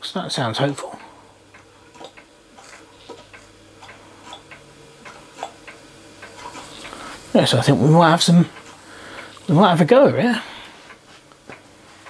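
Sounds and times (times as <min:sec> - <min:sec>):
boiler ticking and clicking: 0:00.0 - 0:12.0
low steady hum: 0:00.0 - 0:12.0.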